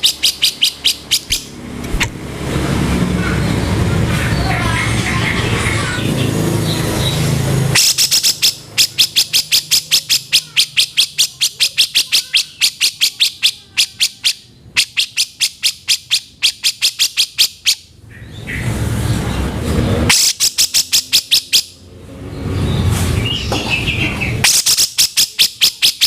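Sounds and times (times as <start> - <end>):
bird calling harsh notes: 0.0 - 1.6, 3.6 - 18.7, 20.1 - 21.8, 22.8 - 26.0.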